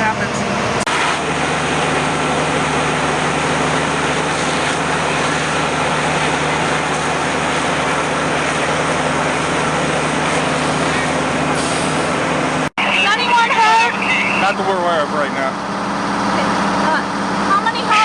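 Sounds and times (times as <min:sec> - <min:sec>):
heavy engine droning: 0:00.0 - 0:18.0.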